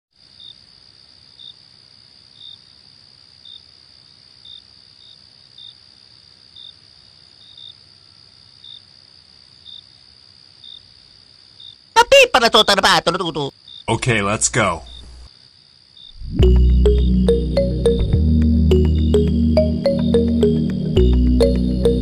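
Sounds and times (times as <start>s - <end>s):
crickets chirping: 0.2s - 22.0s.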